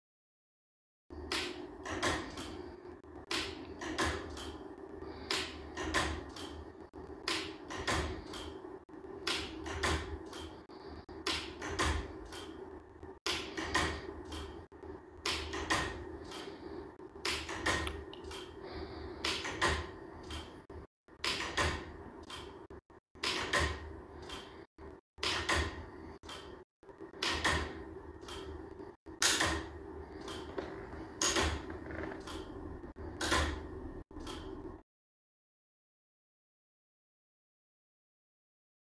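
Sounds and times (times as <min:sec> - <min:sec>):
sharp mechanical clicks: 0:01.1 - 0:18.6, 0:19.2 - 0:34.8
steady low hum: 0:01.1 - 0:34.8.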